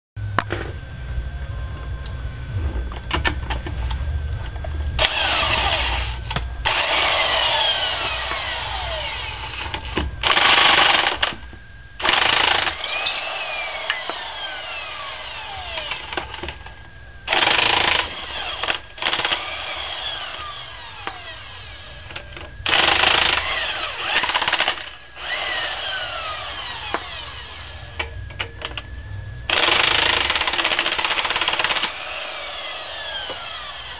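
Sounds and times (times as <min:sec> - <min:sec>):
falling whine: 0:00.2 - 0:29.5.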